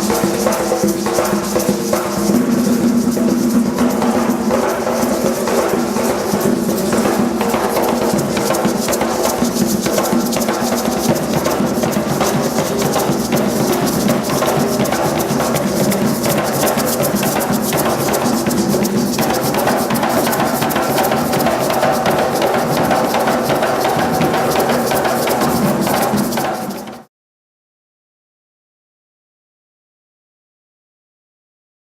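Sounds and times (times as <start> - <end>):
fast dense drumming: 0.0 - 27.1
shaken rattles: 0.0 - 27.1.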